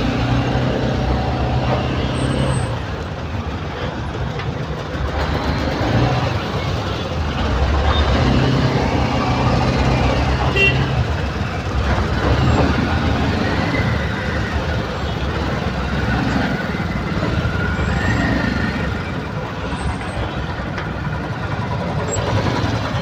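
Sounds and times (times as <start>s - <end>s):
truck and car engines: 0.0s - 23.0s.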